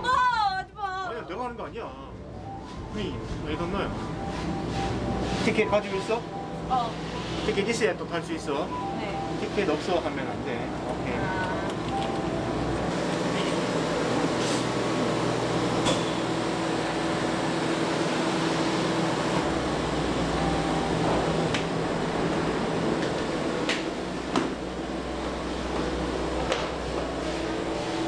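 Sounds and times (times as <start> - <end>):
drive machinery hum and whir: 0.0 - 28.0.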